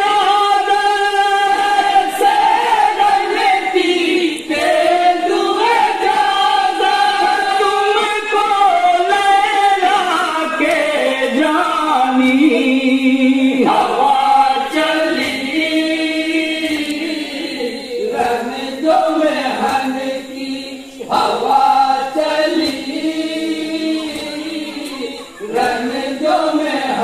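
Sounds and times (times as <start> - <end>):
men singing in unison: 0.0 - 27.0.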